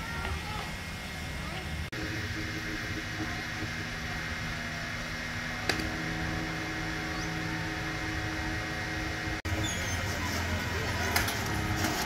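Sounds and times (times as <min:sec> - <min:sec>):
faint steady tones: 0:00.0 - 0:12.0
steady mechanical hum: 0:00.0 - 0:12.0.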